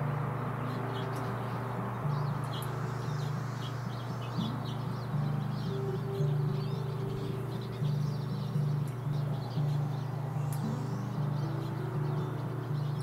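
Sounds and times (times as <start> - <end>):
background music with low notes: 0.0 - 13.0
songbirds chirping: 0.0 - 13.0.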